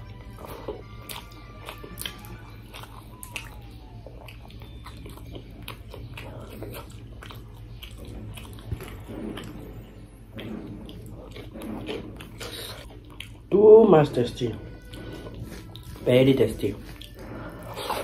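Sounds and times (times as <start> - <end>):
person chewing: 0.0 - 13.6, 14.4 - 18.0.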